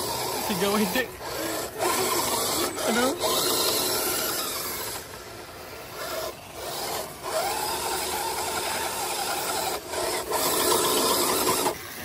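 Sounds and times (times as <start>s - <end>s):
rc car motor whining: 0.0s - 12.0s.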